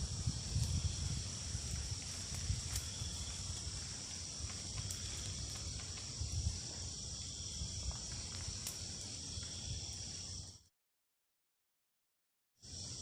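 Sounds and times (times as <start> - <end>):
forest insects chorus: 0.0 - 10.7, 12.6 - 13.0.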